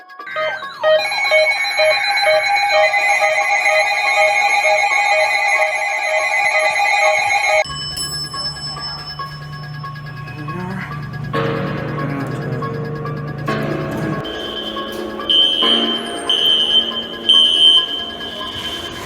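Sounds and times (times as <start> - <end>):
pulsing beep: 0.0 - 10.7, 14.3 - 19.0
high electronic alarm tones: 0.0 - 11.4, 14.2 - 19.0.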